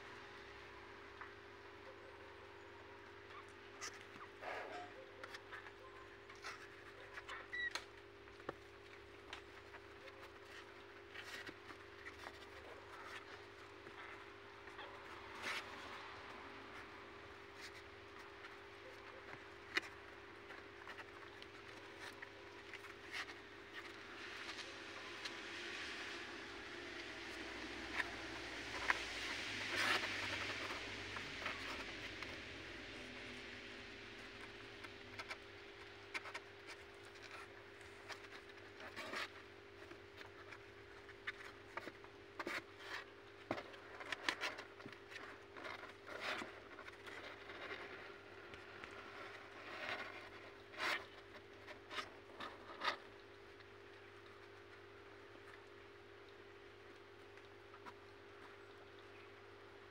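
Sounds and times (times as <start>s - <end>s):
faint steady hum: 0.0s - 59.9s
kitten claws scratching on cardboard: 3.6s - 55.6s.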